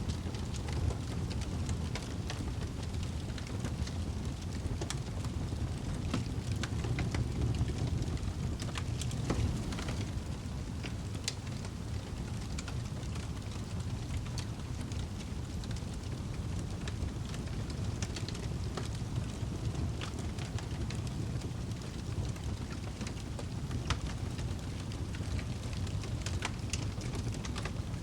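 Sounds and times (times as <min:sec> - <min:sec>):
fire crackling and popping: 0:00.0 - 0:28.0
fire roaring in fireplace: 0:00.0 - 0:28.0.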